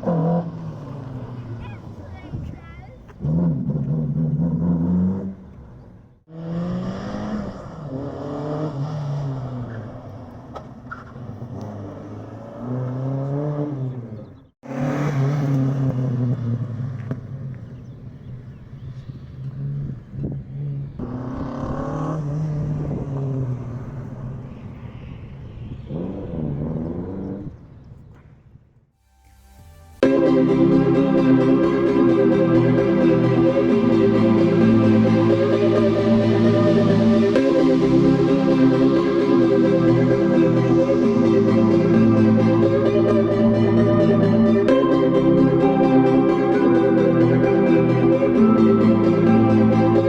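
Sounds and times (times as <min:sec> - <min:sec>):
car engine accelerating: 0:00.0 - 0:02.4, 0:03.0 - 0:24.7, 0:29.2 - 0:50.0.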